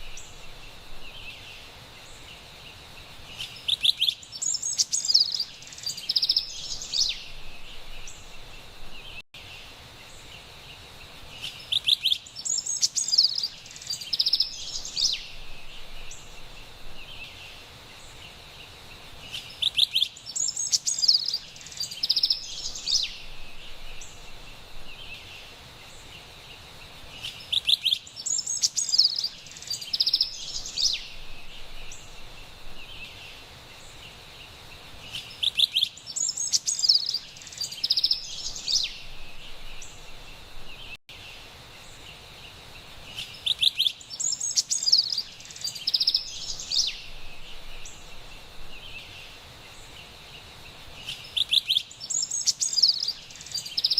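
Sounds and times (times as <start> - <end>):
high-pitched background hiss: 0.0 - 53.9
wren singing: 3.3 - 9.2, 11.3 - 18.3, 19.2 - 26.3, 27.1 - 34.2, 35.0 - 41.2, 43.1 - 50.2, 50.9 - 53.9.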